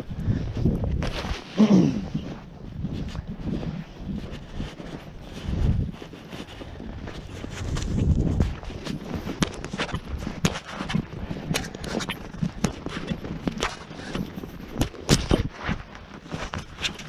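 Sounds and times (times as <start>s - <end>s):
footsteps in snow: 0.0s - 17.0s.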